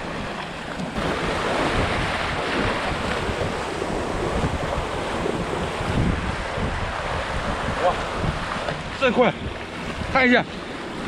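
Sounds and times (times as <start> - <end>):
surf washing on a beach: 0.0 - 11.0
wind buffeting microphone: 0.0 - 11.0.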